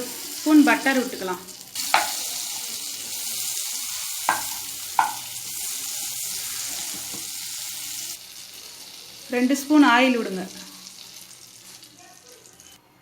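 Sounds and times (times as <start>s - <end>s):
butter sizzling in a pan: 0.0s - 12.8s.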